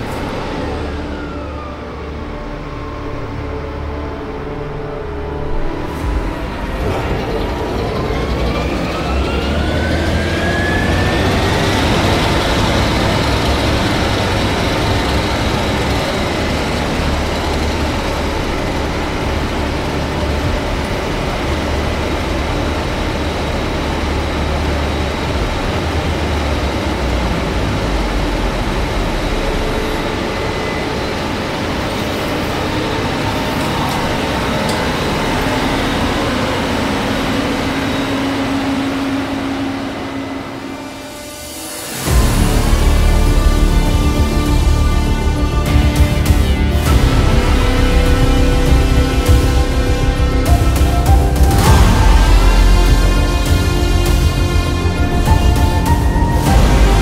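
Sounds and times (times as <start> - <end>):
combine harvester running: 0.0 - 57.0
rising machine whine: 0.0 - 57.0.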